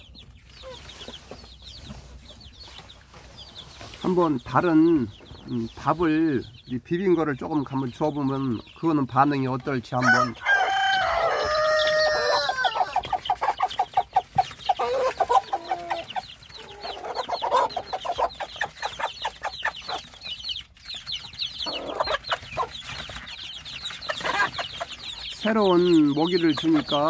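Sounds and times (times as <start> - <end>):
chicks peeping: 0.0 - 27.0
hen clucking: 0.0 - 27.0.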